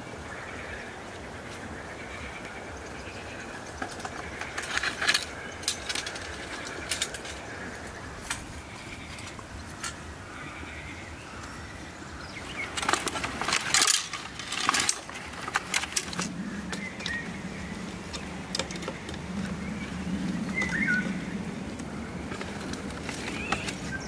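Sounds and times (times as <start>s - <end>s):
bird chirping: 0.0s - 24.0s
cane stalks clattering: 1.4s - 10.2s, 11.4s - 24.0s.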